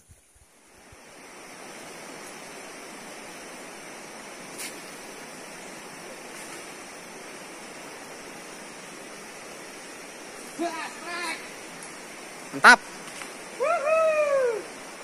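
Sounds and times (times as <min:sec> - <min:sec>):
river water rushing: 0:00.5 - 0:15.0.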